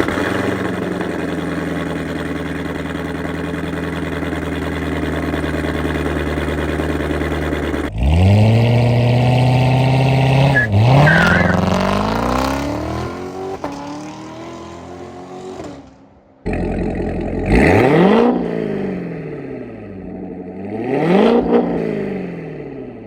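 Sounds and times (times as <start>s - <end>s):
sports car engine revving: 0.0s - 15.9s, 16.5s - 23.0s.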